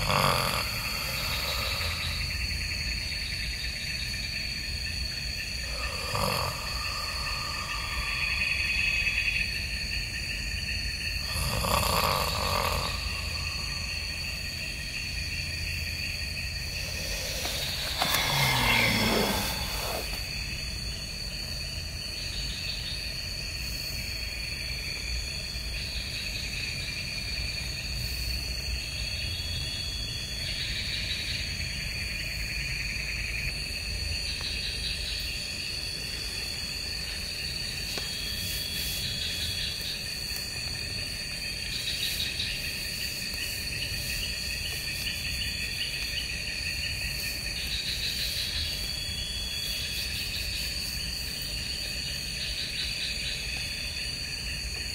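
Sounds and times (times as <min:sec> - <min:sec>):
insect high trill: 0:00.0 - 0:54.9
insects chirping: 0:00.0 - 0:54.9.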